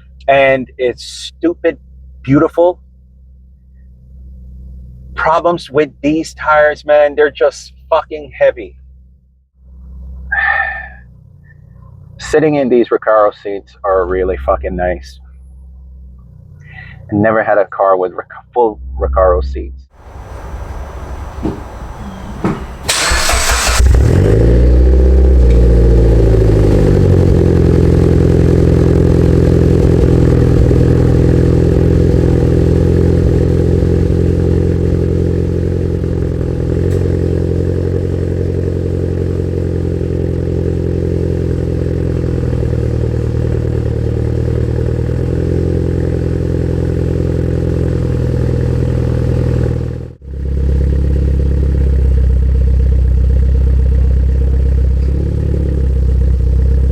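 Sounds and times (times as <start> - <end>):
car engine starting and idling: 0.0 - 56.9.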